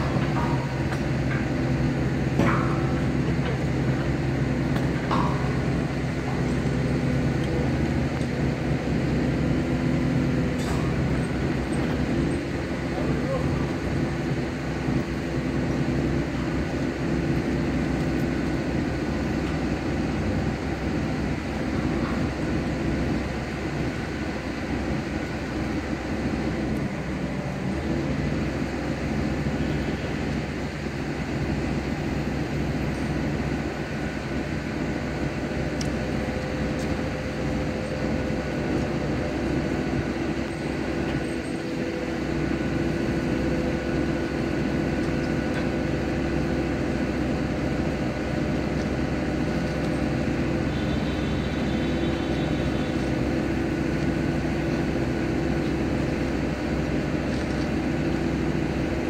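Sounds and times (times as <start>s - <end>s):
engine whine: 0.0s - 59.0s
excavator diesel engine: 0.0s - 59.0s.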